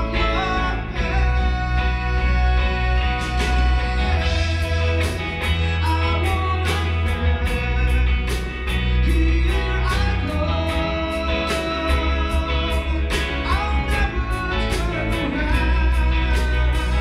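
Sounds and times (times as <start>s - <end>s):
bass guitar: 0.0s - 17.0s
drum kit: 0.0s - 17.0s
electric guitars: 0.0s - 17.0s
man singing into a microphone: 0.0s - 17.0s.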